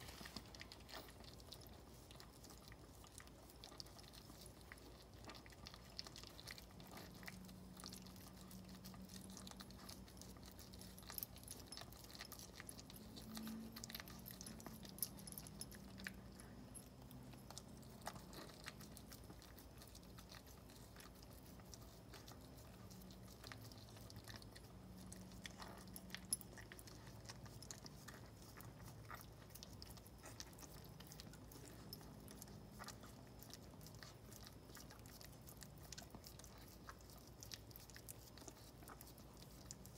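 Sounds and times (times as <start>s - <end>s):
dog licking puppies: 0.0s - 39.9s.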